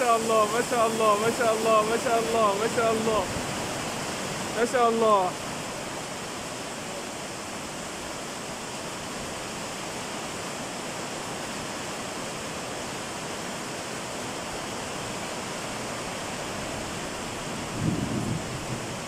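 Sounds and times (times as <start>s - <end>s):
heavy rain splashing into water: 0.0s - 19.0s.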